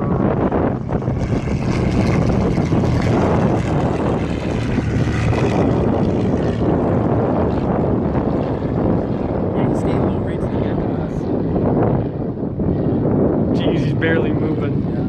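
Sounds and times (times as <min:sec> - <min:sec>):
aircraft engine and propeller droning: 0:00.0 - 0:15.0.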